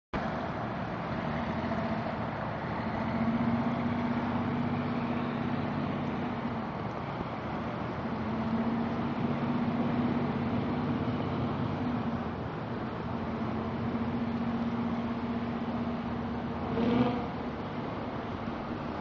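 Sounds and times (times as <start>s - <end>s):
water rushing: 0.2s - 19.0s.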